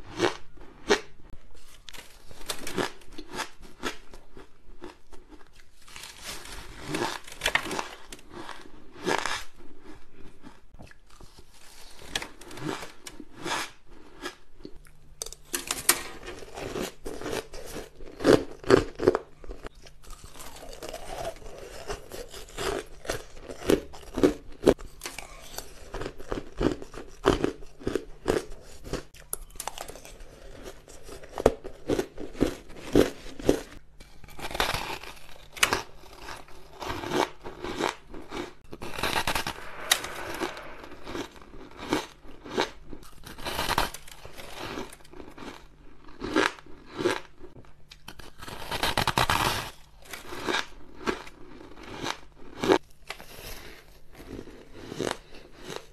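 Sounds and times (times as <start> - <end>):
ice crunching being chewed: 0.0 - 15.4, 16.3 - 39.4, 41.1 - 55.9.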